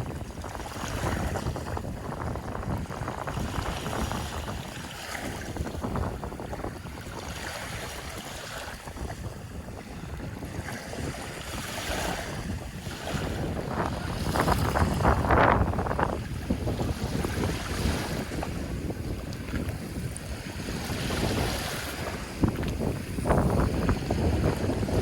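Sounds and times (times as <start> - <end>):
ocean surf washing ashore: 0.0 - 25.0
wind rumbling on microphone: 0.0 - 25.0.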